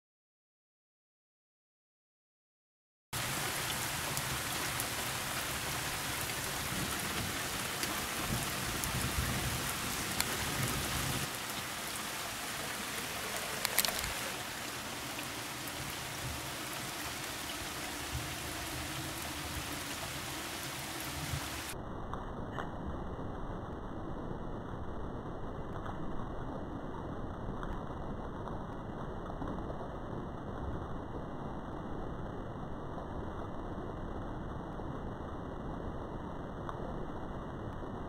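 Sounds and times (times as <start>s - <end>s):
heavy rain falling: 3.2s - 38.0s.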